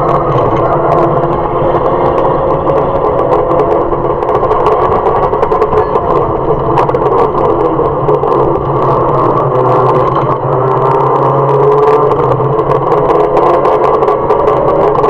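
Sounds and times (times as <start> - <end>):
car engine inside cabin: 0.0 - 15.0
road noise: 0.0 - 15.0.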